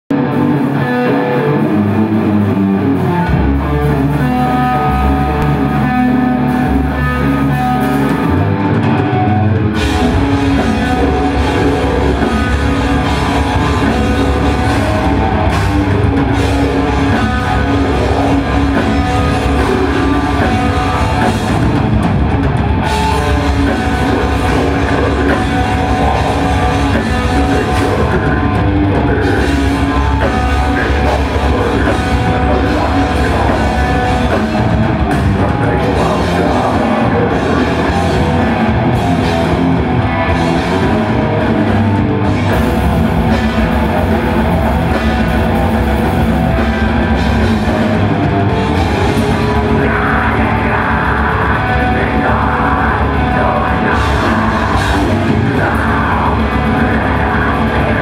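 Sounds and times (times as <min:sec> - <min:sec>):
heavy metal band playing live: 0:00.1 - 0:58.0.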